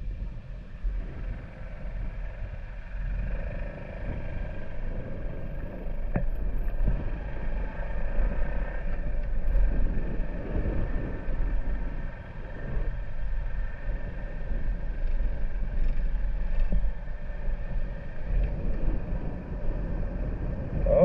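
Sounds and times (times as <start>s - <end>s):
wind rumble on microphone: 0.0s - 21.0s
small motorcycle engine running: 0.9s - 21.0s.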